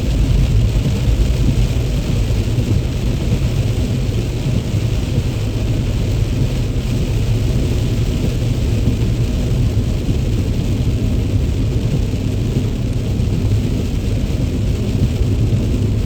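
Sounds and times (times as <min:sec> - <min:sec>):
rain and spray hissing: 0:00.0 - 0:16.0
tyres rumbling on wet road: 0:00.0 - 0:16.0.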